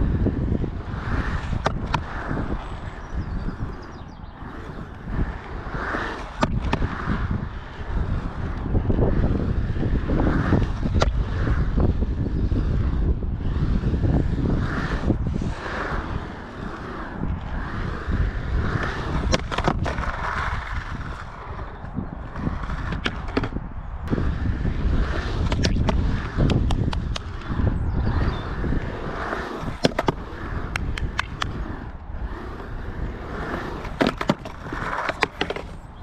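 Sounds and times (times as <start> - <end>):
skateboard wheels rolling on concrete: 0.0 - 36.0
skateboard clacks: 0.1 - 36.0.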